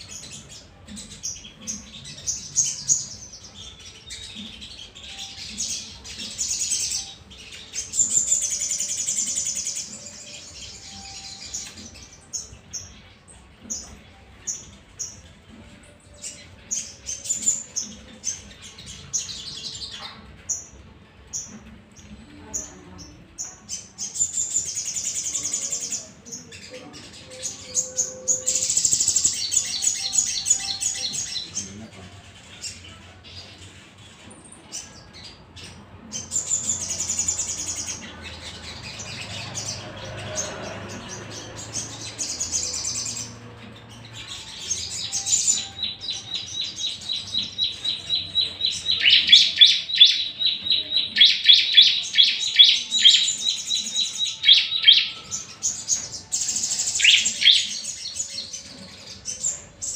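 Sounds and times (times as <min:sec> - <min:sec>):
birds chirping trills: 0:00.0 - 0:59.9.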